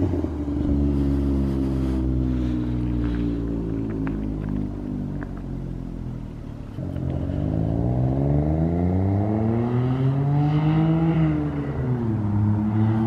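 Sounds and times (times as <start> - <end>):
car engine accelerating hard: 0.0 - 6.0, 6.6 - 13.0.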